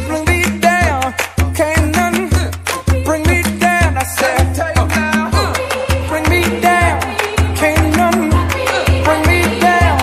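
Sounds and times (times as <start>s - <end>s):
upbeat latin dance music: 0.0s - 10.0s.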